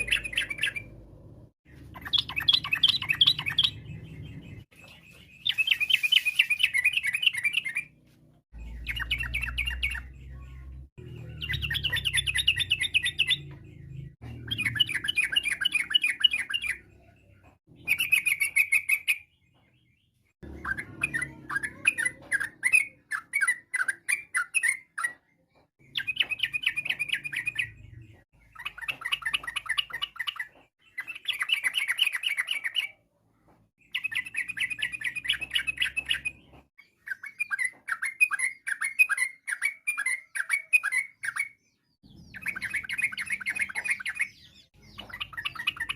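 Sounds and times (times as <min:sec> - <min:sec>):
bulbul chattering song: 0:00.0 - 0:33.1, 0:33.8 - 0:45.9.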